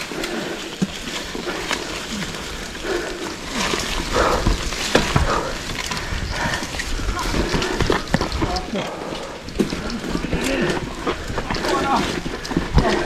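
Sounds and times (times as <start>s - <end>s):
bike trail noise: 0.0s - 13.0s
person breathing hard and grunting: 0.0s - 13.0s.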